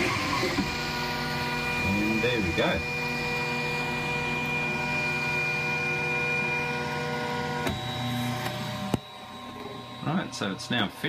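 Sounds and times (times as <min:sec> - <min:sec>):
printer humming: 0:00.0 - 0:11.0.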